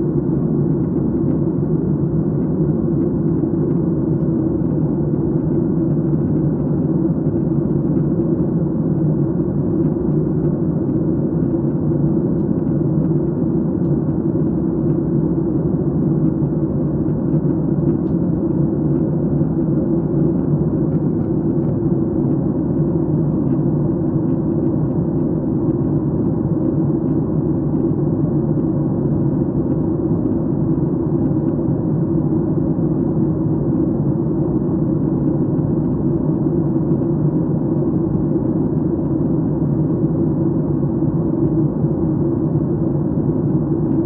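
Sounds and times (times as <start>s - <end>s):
airliner engine rumble in cabin: 0.0s - 44.0s.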